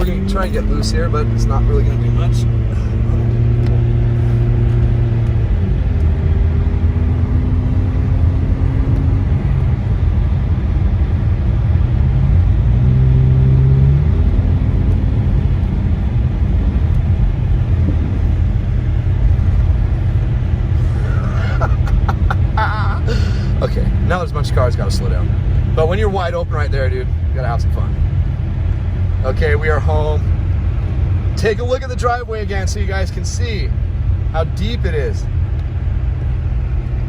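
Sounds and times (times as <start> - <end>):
car engine pulling hard: 0.0 - 37.0
rumble of tyres on snow: 0.0 - 37.0.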